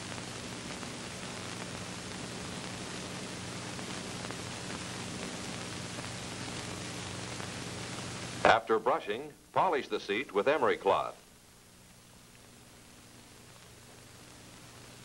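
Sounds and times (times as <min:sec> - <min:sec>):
low electrical hum: 0:00.0 - 0:15.0
steady hiss: 0:00.0 - 0:15.0.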